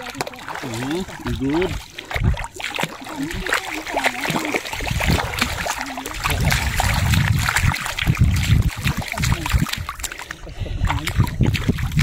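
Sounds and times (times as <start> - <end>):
fish splashing in shallow water: 0.0 - 12.0.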